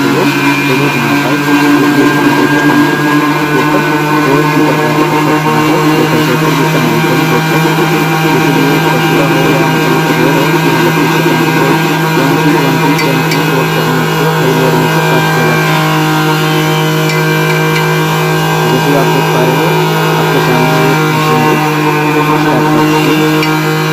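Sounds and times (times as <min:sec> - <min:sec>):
vibration machine humming and rattling: 0:00.0 - 0:23.9.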